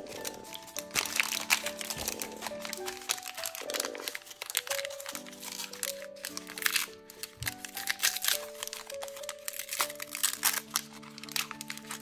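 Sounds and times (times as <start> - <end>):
packaging crinkling and tearing: 0.0 - 12.0
slow chord background music: 0.0 - 12.0.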